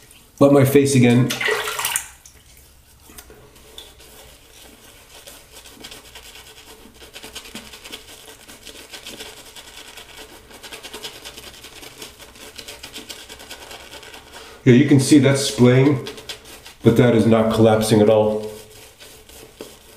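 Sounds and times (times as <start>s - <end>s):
shaving brush scrubbing lather: 2.5s - 19.9s.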